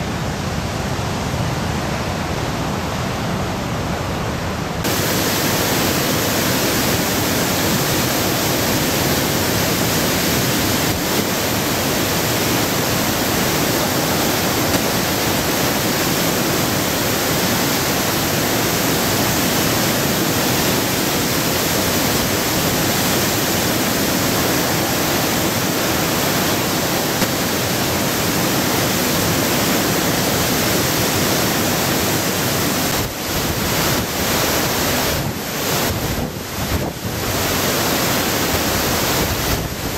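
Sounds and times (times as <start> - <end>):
river torrent rushing: 0.0 - 39.9.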